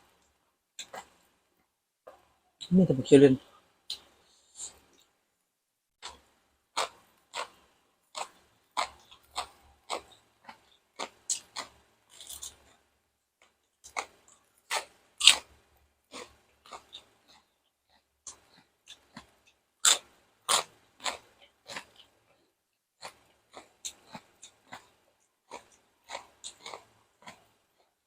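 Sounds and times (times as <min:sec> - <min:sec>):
chewing crunchy food: 0:00.8 - 0:01.3, 0:06.0 - 0:28.0.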